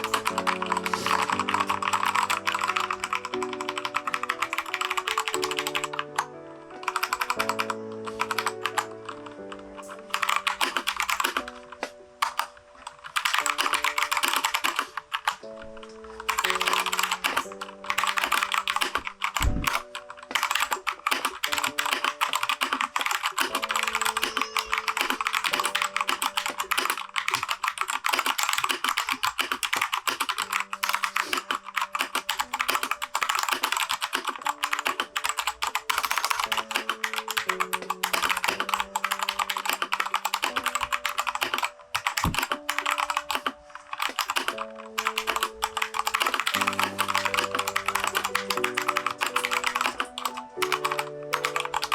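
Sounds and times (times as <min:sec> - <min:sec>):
fast mechanical keyboard typing: 0:00.0 - 0:51.9
soft background music: 0:00.0 - 0:51.9.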